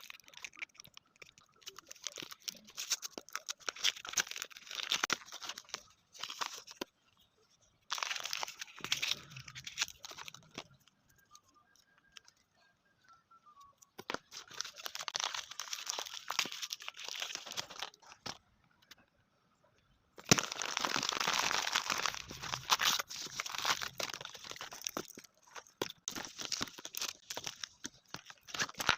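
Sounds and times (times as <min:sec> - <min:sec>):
plastic packaging crinkling: 0:00.0 - 0:12.4, 0:13.8 - 0:18.4, 0:20.2 - 0:28.9.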